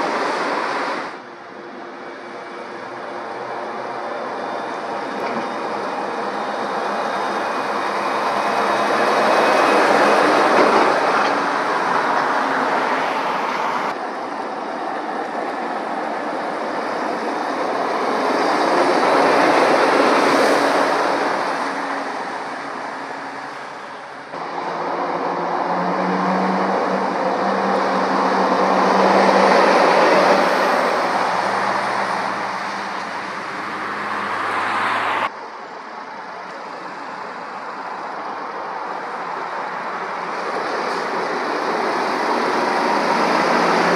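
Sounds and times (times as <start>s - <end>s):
lorries passing: 0.0s - 43.9s.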